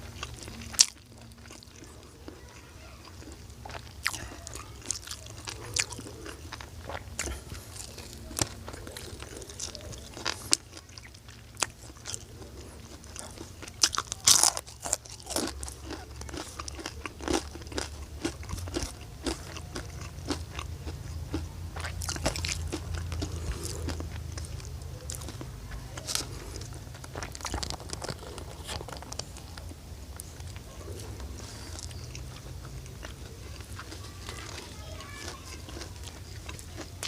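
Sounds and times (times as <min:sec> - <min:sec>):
person crunching food: 0:00.0 - 0:37.0.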